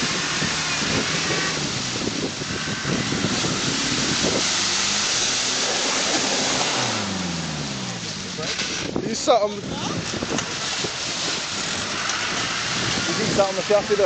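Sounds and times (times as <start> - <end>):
car engine under load: 0.0 - 14.0
churned water rushing: 0.0 - 14.0
wind on microphone: 0.0 - 14.0.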